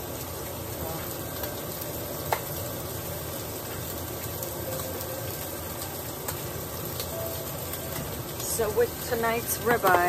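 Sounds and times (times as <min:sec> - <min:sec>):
steak sizzling in a pan: 0:00.0 - 0:10.0.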